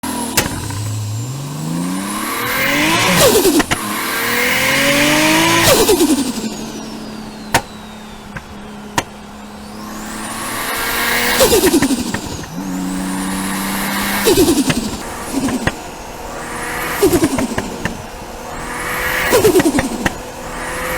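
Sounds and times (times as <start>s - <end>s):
car engine revving: 0.0s - 20.9s
engine idling: 0.0s - 20.9s
turbo flutter: 0.1s - 20.9s
sharp cracks: 0.2s - 20.9s.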